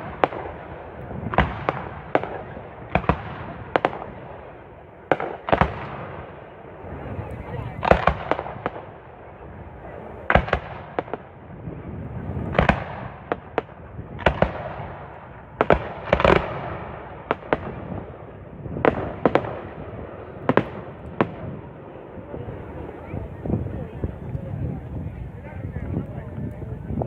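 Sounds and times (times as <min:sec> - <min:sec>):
continuous rumble: 0:00.0 - 0:27.0
fireworks bangs: 0:00.0 - 0:27.0.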